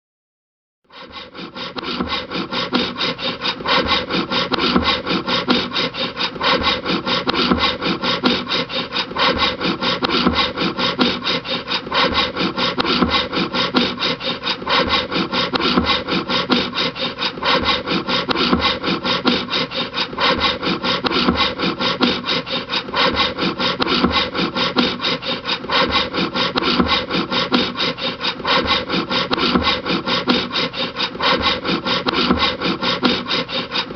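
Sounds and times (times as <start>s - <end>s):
hand saw cutting wood: 0.9s - 33.9s.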